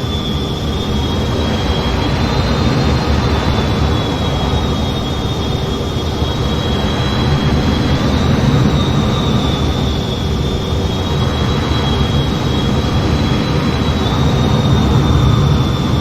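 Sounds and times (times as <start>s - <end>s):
jet engine and air rush: 0.0s - 16.0s.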